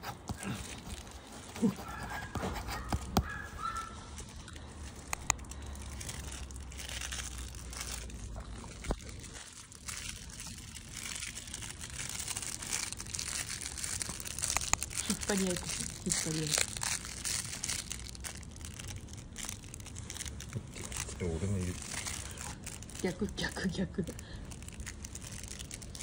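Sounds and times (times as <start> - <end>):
crinkle toy rustling: 0.0 - 26.0.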